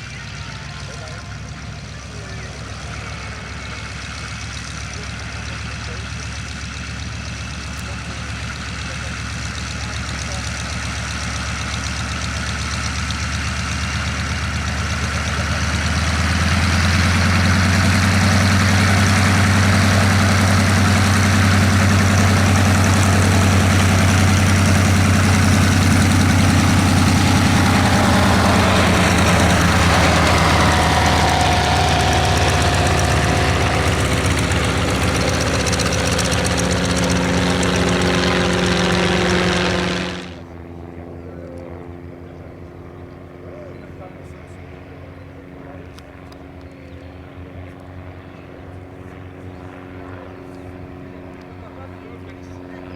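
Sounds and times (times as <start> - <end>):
propeller aircraft engine drone: 0.0 - 52.9.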